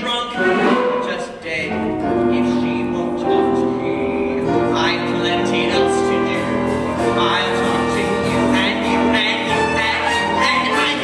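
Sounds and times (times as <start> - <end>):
pit band playing: 0.0 - 11.0.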